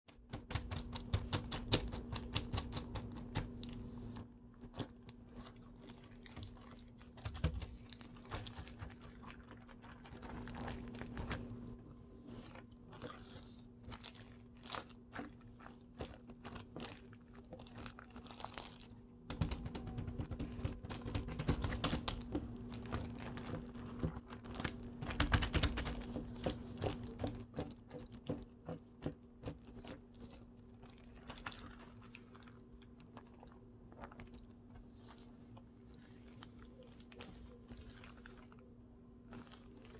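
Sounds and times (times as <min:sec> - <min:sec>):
low electrical hum: 0:00.1 - 0:39.9.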